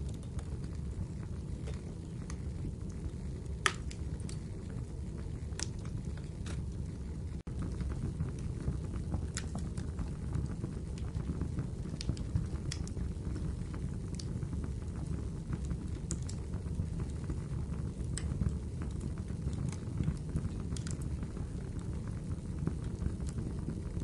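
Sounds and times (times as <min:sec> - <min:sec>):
fire crackles and pops: 0:00.0 - 0:24.0
fire flames rushing: 0:00.0 - 0:24.0.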